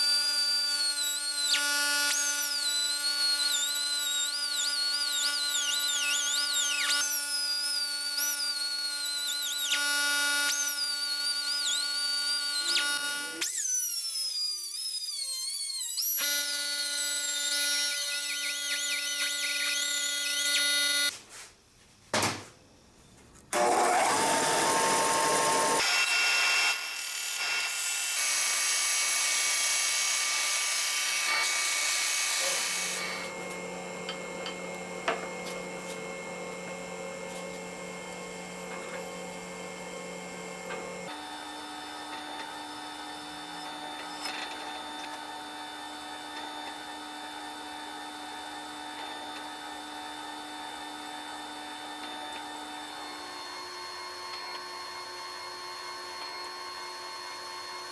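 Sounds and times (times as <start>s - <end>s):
small electric power tool running: 0.0s - 21.1s, 23.6s - 57.9s.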